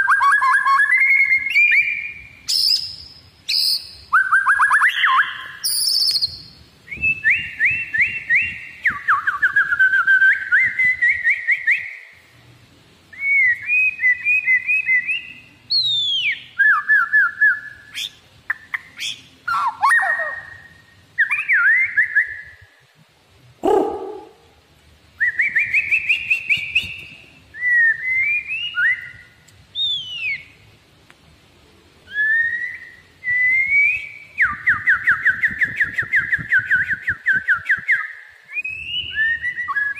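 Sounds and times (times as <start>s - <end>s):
songbird whistling and trilling: 0.0s - 12.2s, 13.1s - 22.7s, 25.2s - 30.6s, 32.0s - 39.9s.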